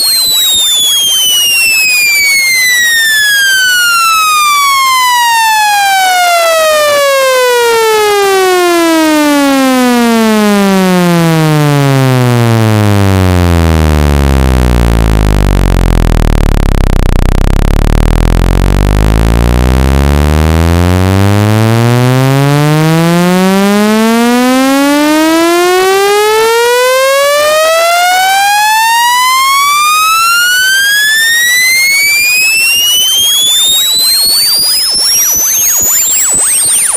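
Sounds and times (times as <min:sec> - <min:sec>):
electronic tone sweeping in pitch: 0:00.0 - 0:08.5, 0:10.7 - 0:36.9.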